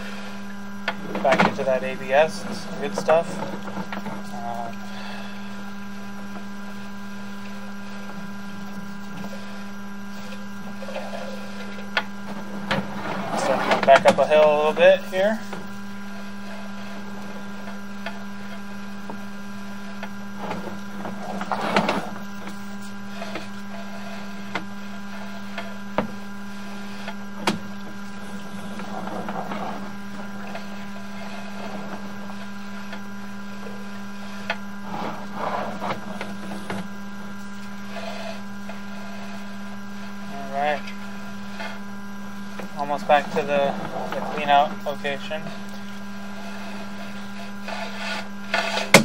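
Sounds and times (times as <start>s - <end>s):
cable scraping and rustling: 0.0s - 49.0s
equipment humming: 0.0s - 49.0s.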